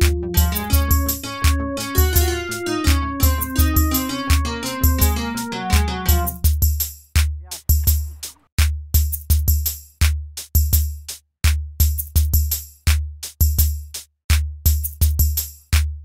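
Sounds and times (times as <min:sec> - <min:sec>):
music with bass kicks and percussion: 0:00.0 - 0:16.0.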